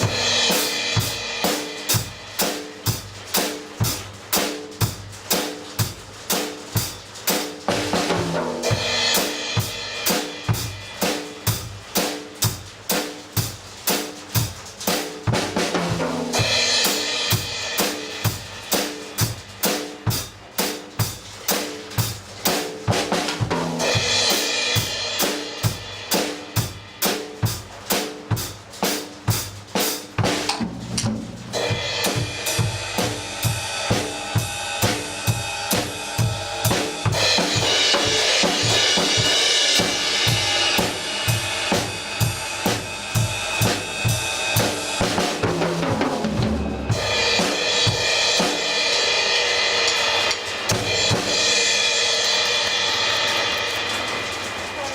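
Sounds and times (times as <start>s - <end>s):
drum kit beat: 0.0s - 54.9s.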